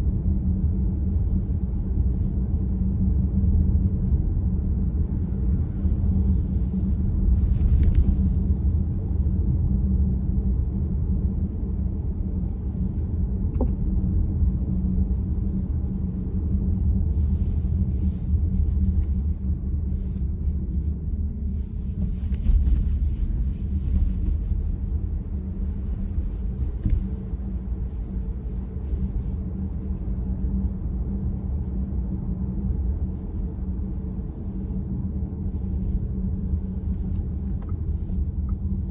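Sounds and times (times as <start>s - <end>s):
car rumble: 0.0s - 38.9s.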